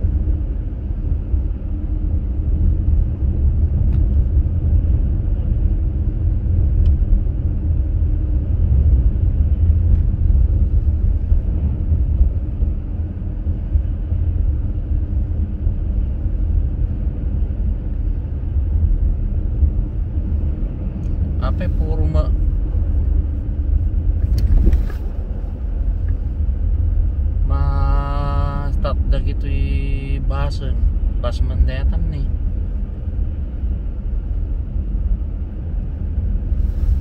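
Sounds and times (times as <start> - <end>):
road rumble inside car: 0.0 - 37.0.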